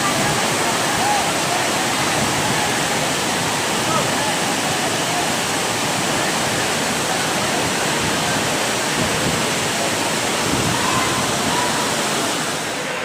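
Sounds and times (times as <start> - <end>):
heavy rain pouring: 0.0 - 13.0
rainwater rushing: 0.0 - 13.0.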